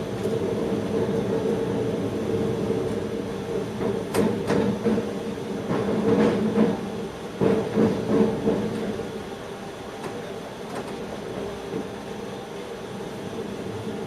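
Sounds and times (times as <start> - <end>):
electric train hum: 0.0 - 14.0.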